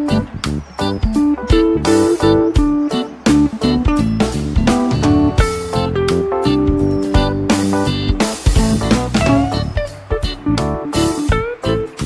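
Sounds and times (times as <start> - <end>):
guitar with bent notes: 0.0 - 12.0
drum beat: 1.0 - 12.0.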